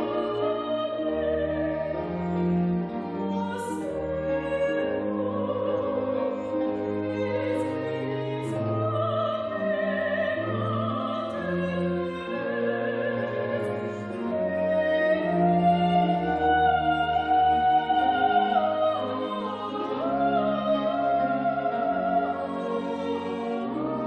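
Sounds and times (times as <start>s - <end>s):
string ensemble playing slow music: 0.0s - 24.0s.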